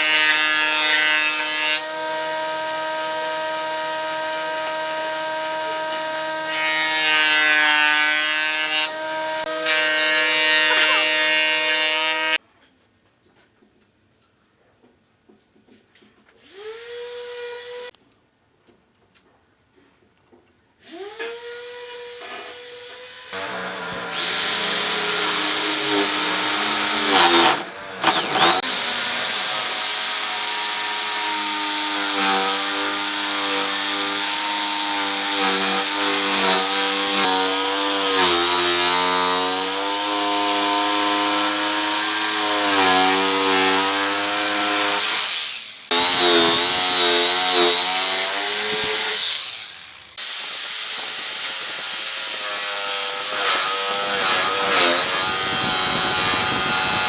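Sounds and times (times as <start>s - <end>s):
power tool whining on wood: 0.0s - 12.4s, 16.4s - 17.9s, 20.8s - 57.0s.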